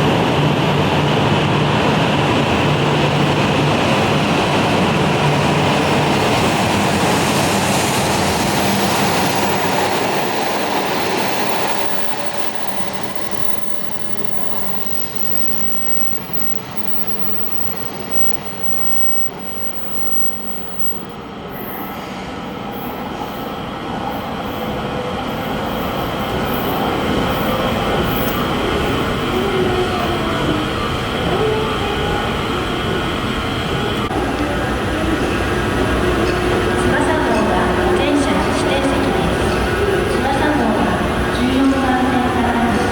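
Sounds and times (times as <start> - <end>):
train rumbling on tracks: 0.0 - 42.9.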